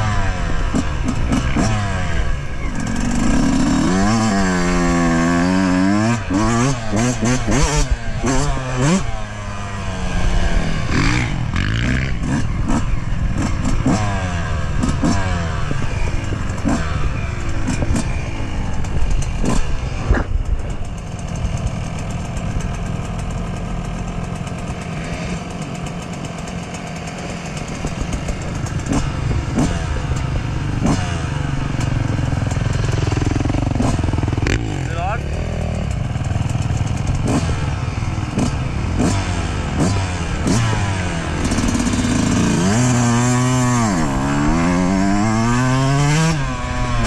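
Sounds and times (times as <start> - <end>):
dirt bike engine revving: 0.0 - 47.0
second dirt bike engine revving: 0.0 - 47.0.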